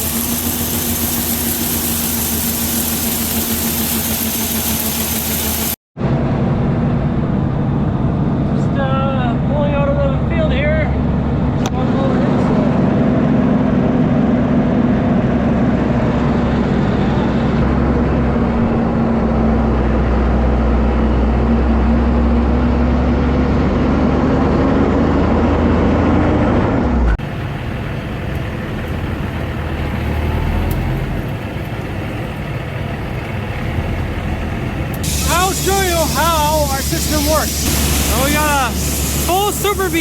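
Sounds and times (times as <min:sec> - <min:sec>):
farm machinery engine whining: 0:00.0 - 0:40.0
low engine rumble: 0:00.0 - 0:40.0.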